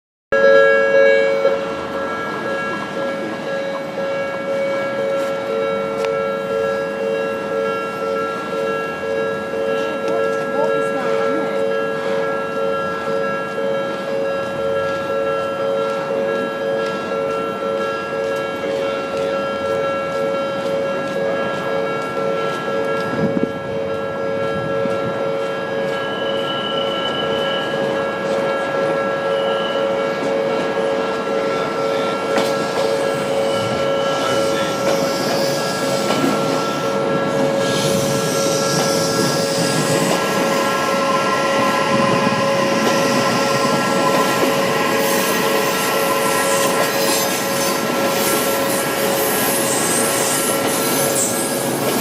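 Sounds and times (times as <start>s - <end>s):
level-crossing warning bell: 0.3s - 52.0s
train wheels rumbling on rails: 0.6s - 52.0s.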